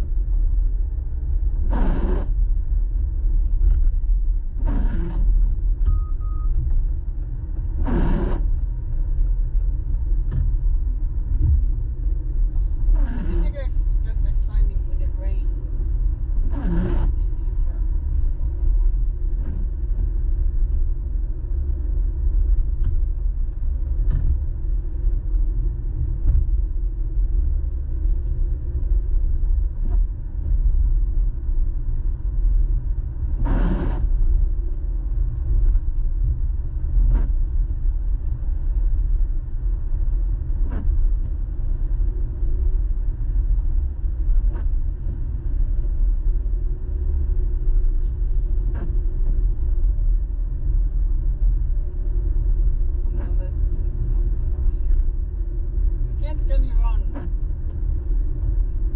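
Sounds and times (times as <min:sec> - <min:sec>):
car road noise rumble: 0:00.0 - 0:58.9.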